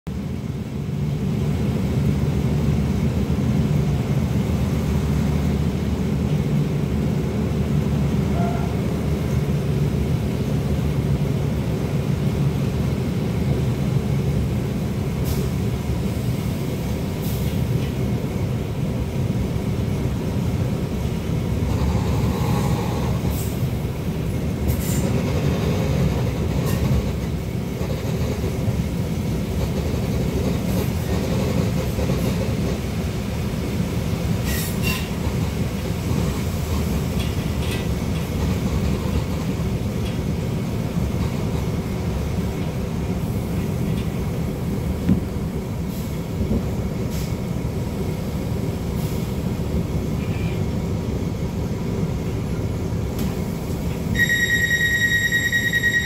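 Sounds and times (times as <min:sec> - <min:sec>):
railcar engine drone: 0:00.1 - 0:56.0
wheels rumbling on rail: 0:00.1 - 0:56.0.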